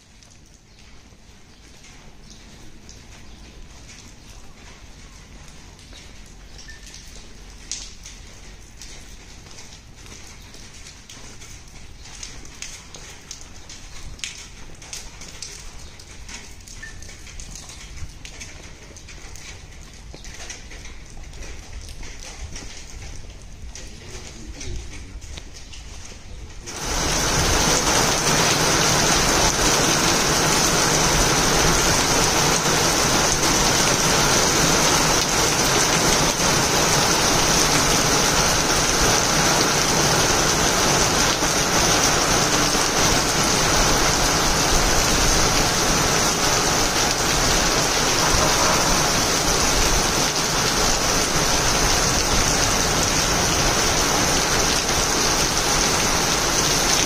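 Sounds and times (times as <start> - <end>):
rain on cobblestones: 0.0 - 57.0.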